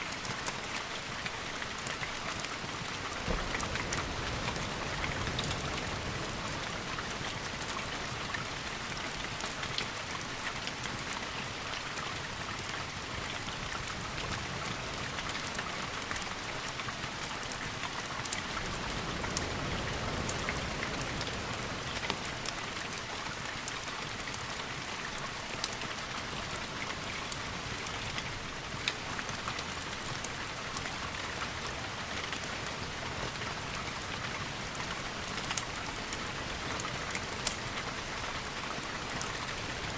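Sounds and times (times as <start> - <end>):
sharp ticks of raindrops: 0.0 - 39.9
steady rainfall: 0.0 - 39.9.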